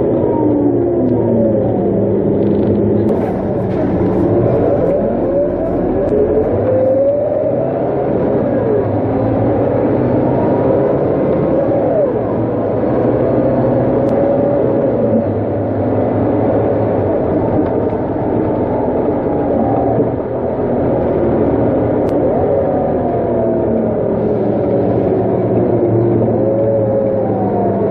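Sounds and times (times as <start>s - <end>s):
bus engine drone: 0.0s - 27.9s
transmission whine: 0.0s - 27.9s.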